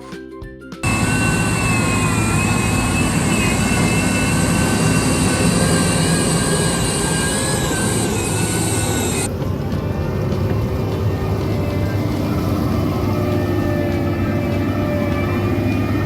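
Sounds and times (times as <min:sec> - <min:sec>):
diesel engine running: 0:00.8 - 0:16.0
wavering whine: 0:00.8 - 0:16.0.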